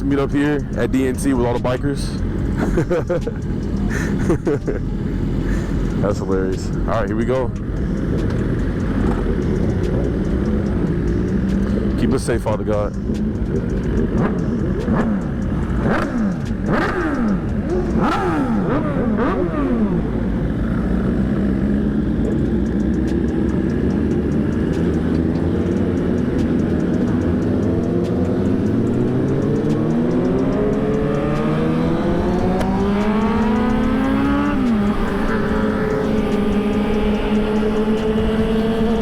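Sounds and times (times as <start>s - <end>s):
motorcycle engine rising whine: 0.0s - 39.0s
motorcycle engines revving: 0.0s - 39.0s.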